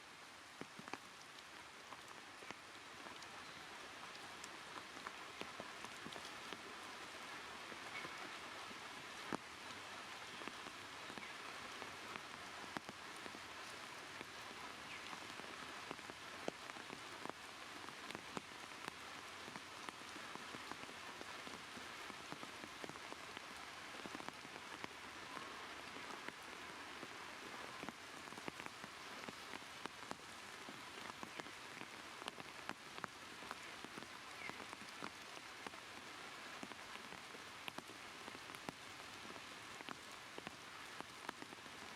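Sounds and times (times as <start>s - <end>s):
light rain falling: 0.0s - 41.9s.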